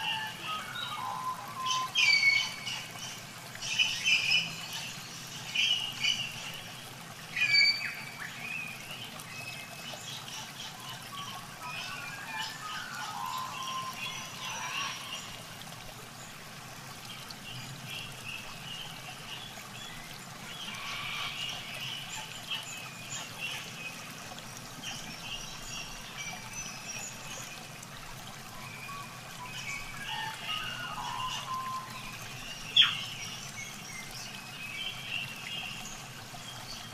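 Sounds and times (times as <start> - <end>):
water splashing and trickling: 0.0 - 36.9.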